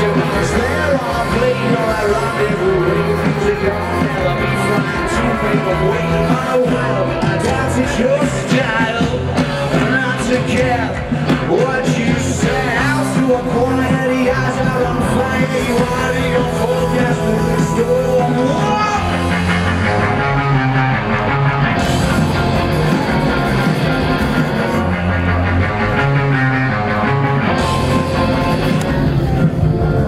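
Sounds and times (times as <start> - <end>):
bass guitar: 0.0 - 30.0
distorted electric guitars: 0.0 - 30.0
drums: 0.0 - 30.0.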